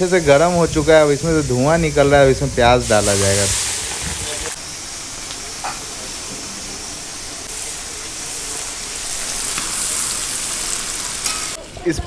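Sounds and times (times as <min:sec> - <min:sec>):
onions sizzling in hot oil: 0:00.0 - 0:11.6.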